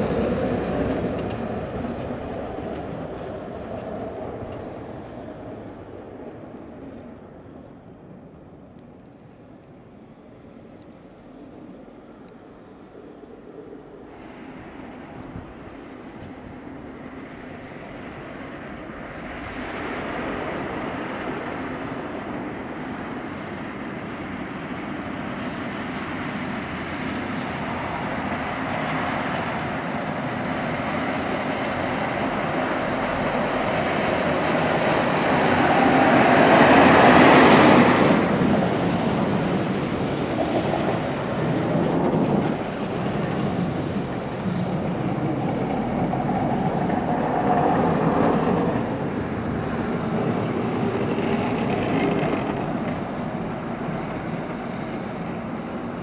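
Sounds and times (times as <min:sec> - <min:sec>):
snow plow trucks rushing: 0:00.0 - 0:56.0.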